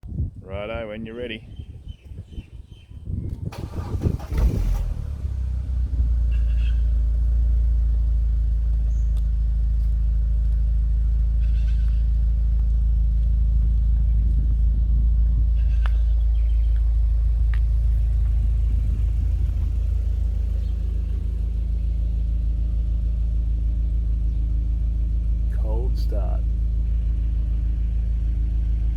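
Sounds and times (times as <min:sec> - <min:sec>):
car engine starting and idling: 0:01.8 - 0:28.9.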